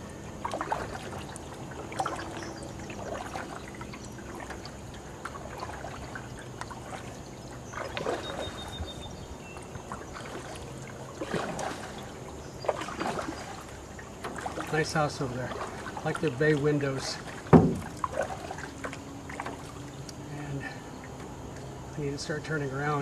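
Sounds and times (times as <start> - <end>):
canoe paddle strokes in water: 0.0 - 23.0
water dripping off paddle: 0.3 - 21.9.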